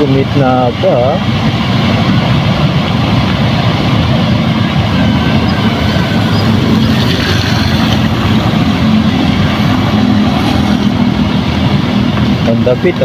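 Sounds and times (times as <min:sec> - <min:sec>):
vehicle engine humming: 0:00.0 - 0:13.0
water rushing: 0:00.0 - 0:13.0.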